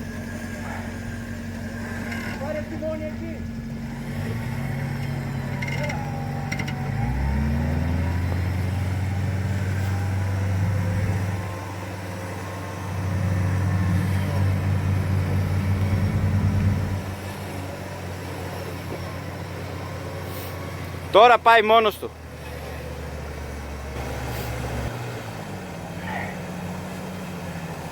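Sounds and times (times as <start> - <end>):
off-road engine revving: 0.0 - 27.9.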